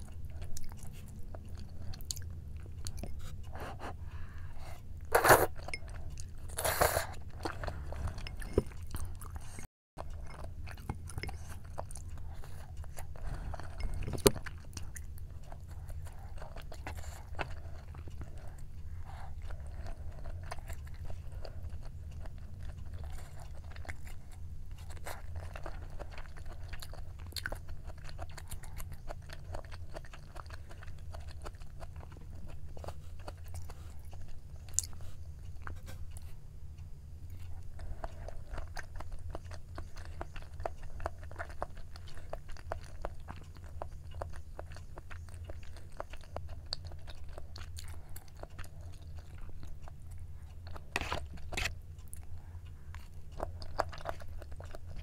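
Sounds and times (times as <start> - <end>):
close-up chewing: 0.0 - 55.0
steady low hum: 0.0 - 55.0.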